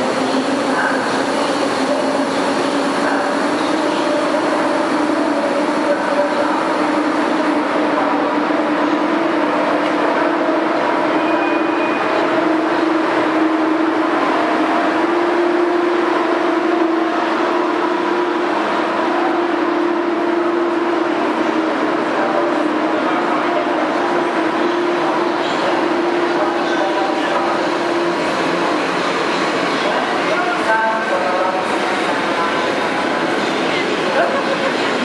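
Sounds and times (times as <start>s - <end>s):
train rolling past: 0.0s - 35.0s.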